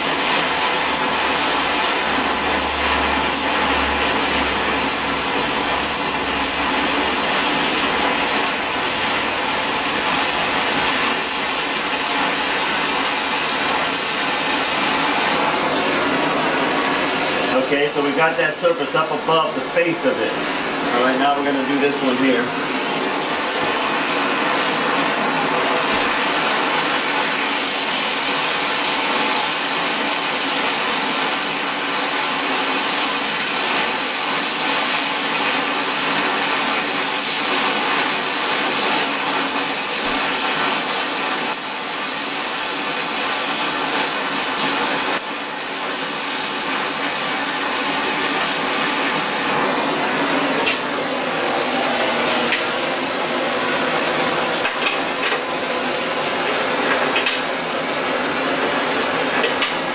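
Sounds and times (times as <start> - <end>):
gas torch flame hissing: 0.0 - 59.9.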